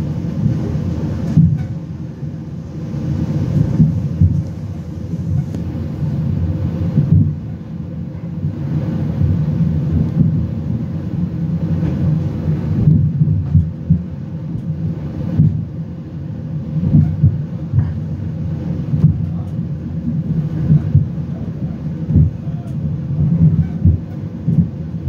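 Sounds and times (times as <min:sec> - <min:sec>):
train rumbling from inside carriage: 0:00.0 - 0:25.0.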